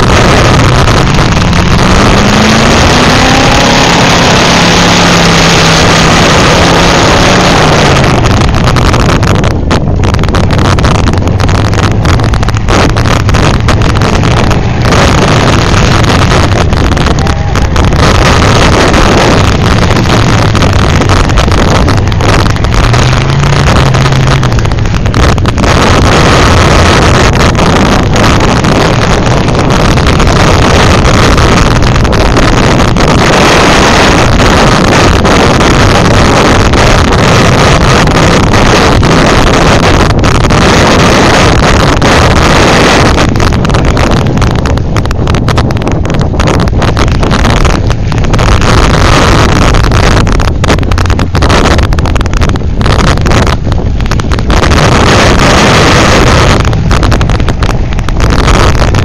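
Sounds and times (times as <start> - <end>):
car engines revving: 0.0 - 59.0
wind buffeting the microphone: 0.0 - 59.0.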